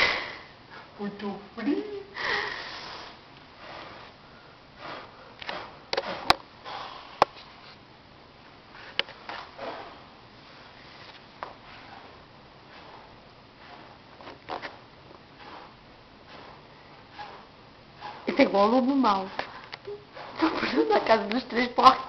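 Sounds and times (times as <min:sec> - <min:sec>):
person blowing on embers: 0:02.2 - 0:07.8, 0:08.7 - 0:21.2.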